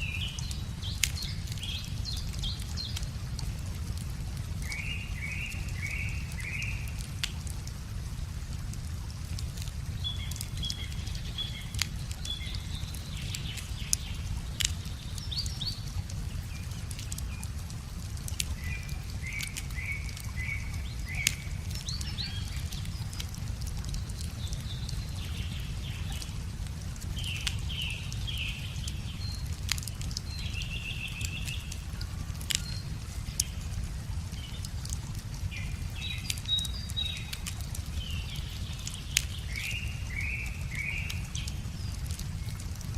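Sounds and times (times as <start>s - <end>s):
small birds chirping: 0.0s - 7.8s, 9.2s - 42.9s
wood fire crackling and popping: 0.0s - 42.9s.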